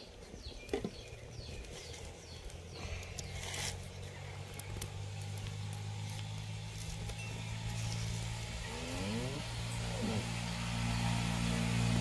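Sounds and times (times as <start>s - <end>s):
engine idling: 1.3s - 12.0s.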